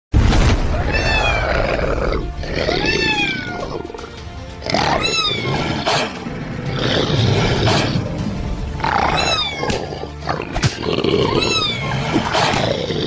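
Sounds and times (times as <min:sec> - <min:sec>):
background music: 0:00.2 - 0:13.0.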